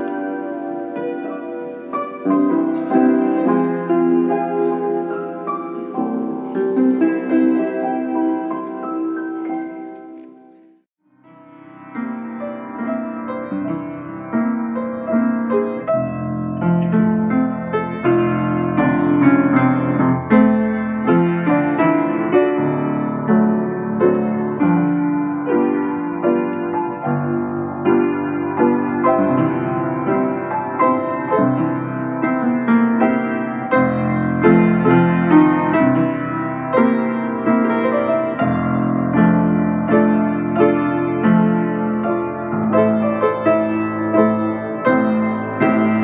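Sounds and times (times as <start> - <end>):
piano playing chords: 0.0 - 46.0.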